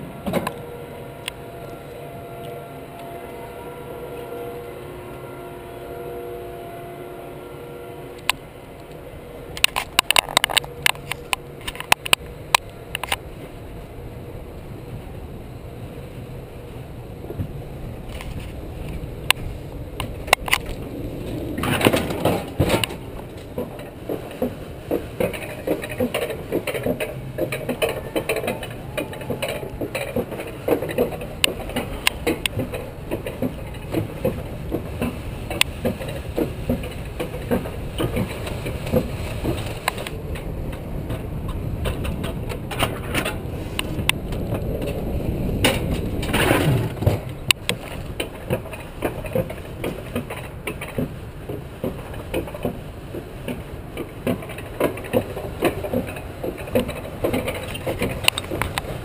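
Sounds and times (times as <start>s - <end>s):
coaster sled rumbling on rails: 0.0s - 59.0s.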